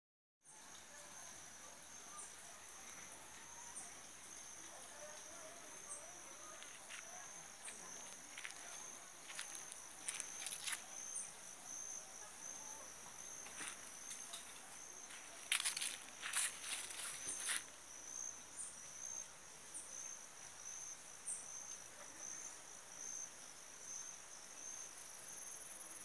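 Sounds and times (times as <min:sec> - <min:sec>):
insects trilling: 0:00.5 - 0:26.0.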